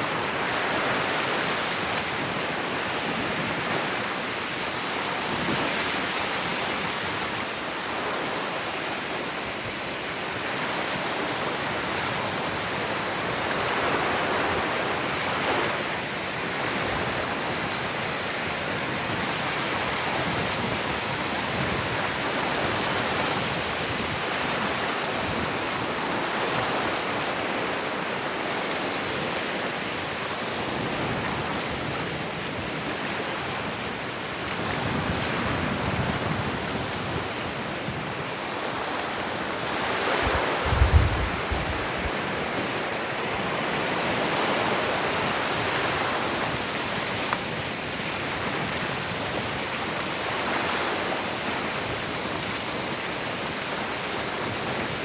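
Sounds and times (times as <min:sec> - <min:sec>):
surf washing onto beach: 0:00.0 - 0:55.0.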